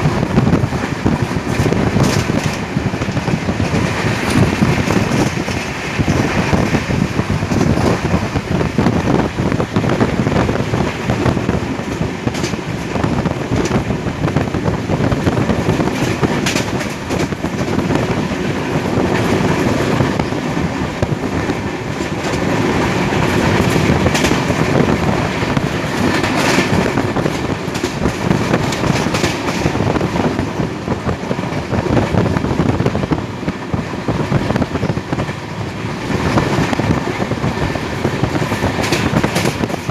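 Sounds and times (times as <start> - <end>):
train rumble: 0.0 - 39.9
train wheels clattering: 0.0 - 39.9.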